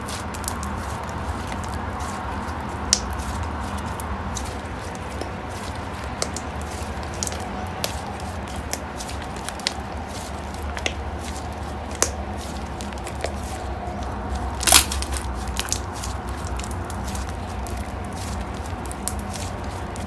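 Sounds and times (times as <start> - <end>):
slime crackle: 0.0 - 20.0
steady low hum: 0.0 - 20.0.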